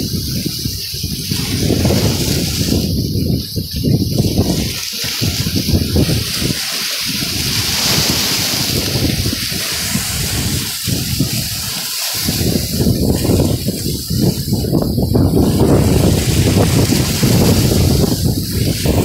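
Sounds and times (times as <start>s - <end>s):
rushing splashing sea water: 0.0s - 19.0s
wind buffeting microphone: 0.0s - 19.0s.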